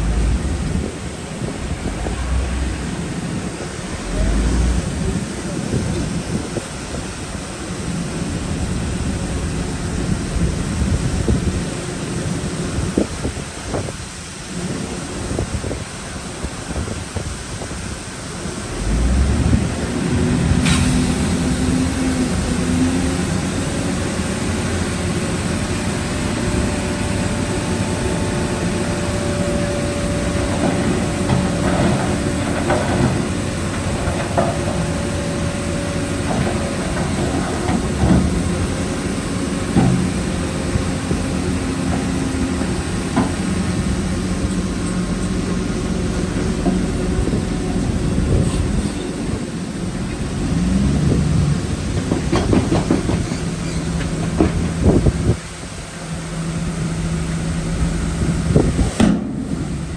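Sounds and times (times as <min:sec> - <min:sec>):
construction machinery rumbling: 0:00.0 - 0:59.9.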